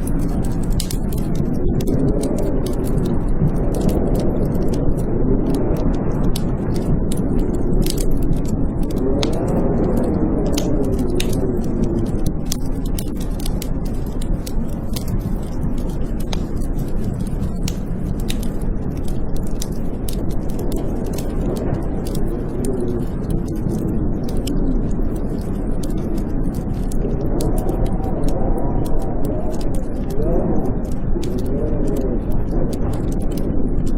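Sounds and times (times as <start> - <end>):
blizzard wind howling: 0.0 - 33.9
wood fire crackling and popping: 0.0 - 33.9.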